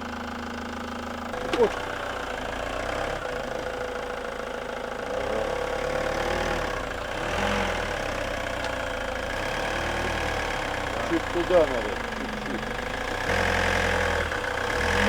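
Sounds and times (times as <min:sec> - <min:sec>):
van engine at low revs: 0:00.0 - 0:15.0.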